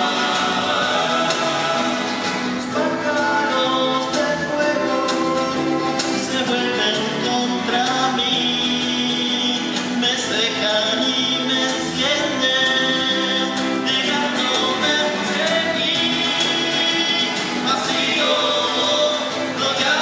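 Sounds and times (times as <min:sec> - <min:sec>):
men singing: 0:00.0 - 0:20.0
small guitar: 0:00.0 - 0:20.0
strummed acoustic guitars: 0:00.0 - 0:20.0.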